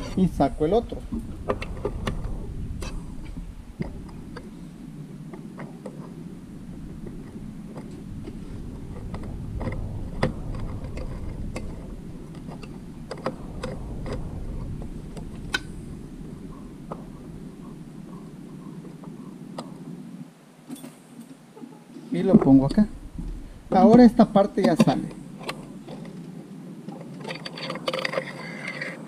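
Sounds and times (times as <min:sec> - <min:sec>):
steady low hum: 0:00.0 - 0:20.7, 0:21.4 - 0:27.5.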